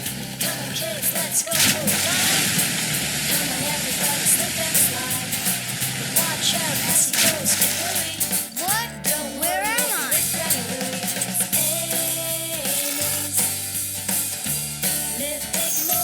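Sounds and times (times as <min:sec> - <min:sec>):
background music with drum beat: 0:00.0 - 0:16.0
stepping bass line: 0:00.0 - 0:16.0.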